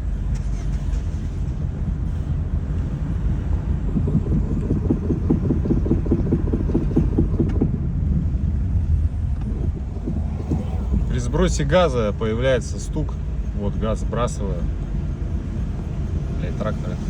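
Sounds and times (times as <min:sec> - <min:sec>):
rapid engine knocking: 0:00.0 - 0:17.0
road rumble: 0:00.0 - 0:17.0.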